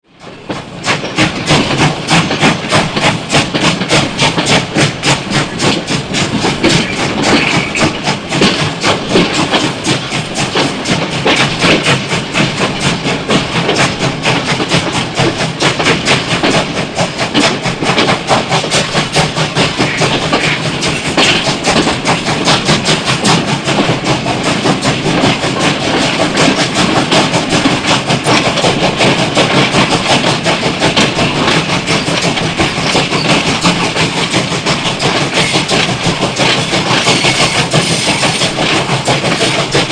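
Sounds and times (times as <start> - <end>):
train clattering: 0.1 - 39.9.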